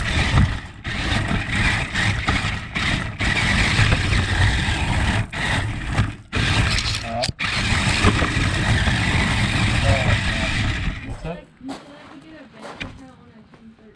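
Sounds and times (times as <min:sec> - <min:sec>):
toy car motor whirring: 0:00.0 - 0:11.3.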